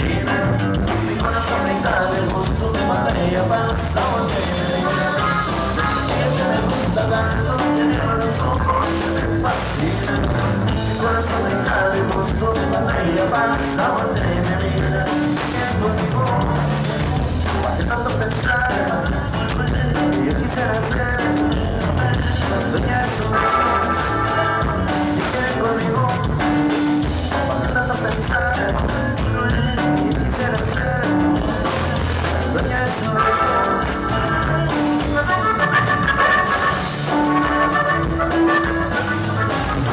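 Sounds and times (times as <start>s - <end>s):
accordion: 0.0s - 39.9s
drum kit: 0.0s - 39.9s
guitar: 0.0s - 39.9s.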